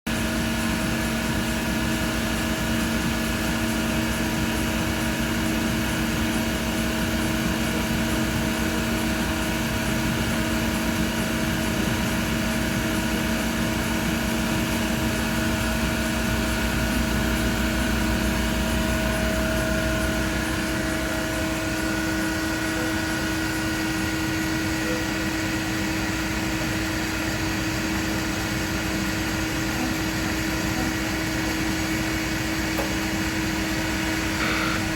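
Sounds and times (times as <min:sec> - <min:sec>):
machine humming with held tones: 0:00.2 - 0:34.9.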